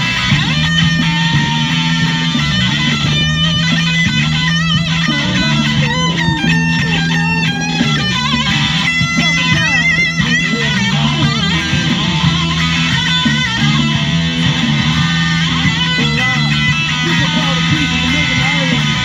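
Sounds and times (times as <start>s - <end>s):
electric guitar blues lead: 0.0s - 19.0s.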